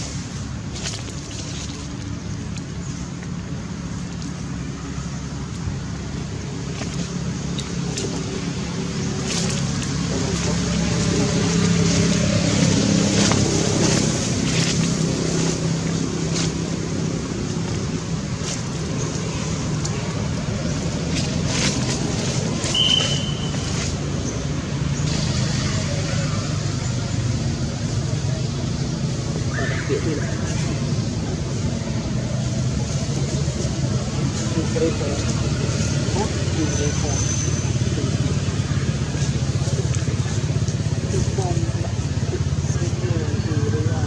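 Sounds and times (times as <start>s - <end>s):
motorbike engine passing: 5.8s - 44.0s.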